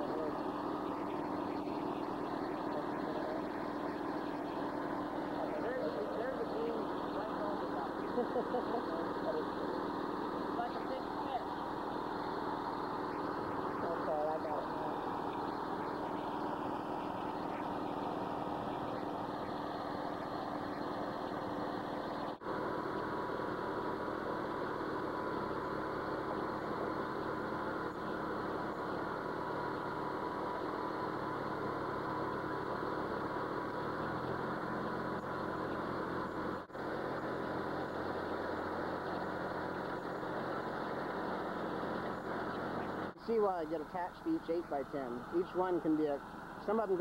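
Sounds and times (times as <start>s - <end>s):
sawmill engine running: 0.0s - 47.0s.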